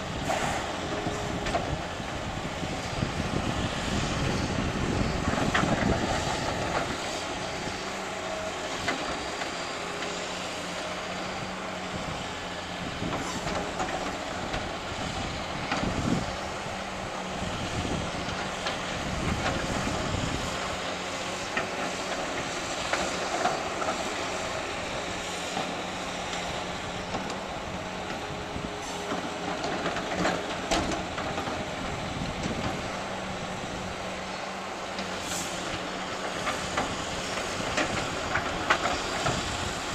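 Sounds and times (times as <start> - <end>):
heavy machinery engine hum: 0.0 - 39.9.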